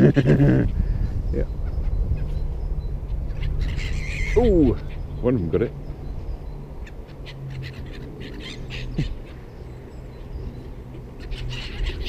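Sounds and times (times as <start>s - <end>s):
birds calling: 0.0s - 12.0s
steady low hum: 0.0s - 12.0s.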